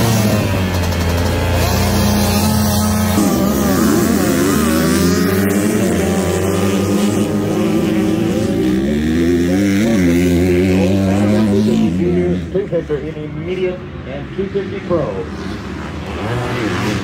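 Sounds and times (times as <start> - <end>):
dirt bikes revving and accelerating: 0.0 - 17.0.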